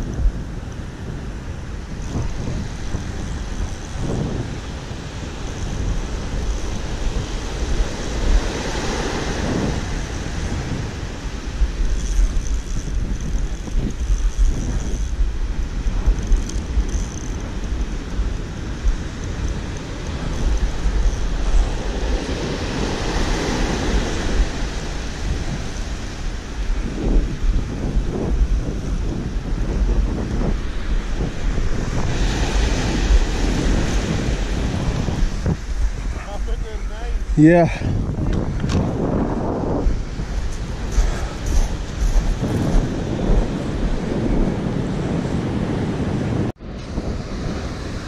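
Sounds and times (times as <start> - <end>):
wind buffeting microphone: 0.0 - 48.0
surf breaking on beach: 1.2 - 48.0.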